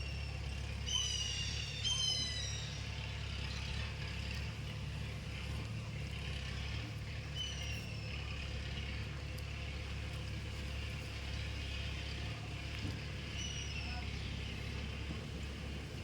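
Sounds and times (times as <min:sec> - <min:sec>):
low engine-like drone: 0:00.0 - 0:16.0.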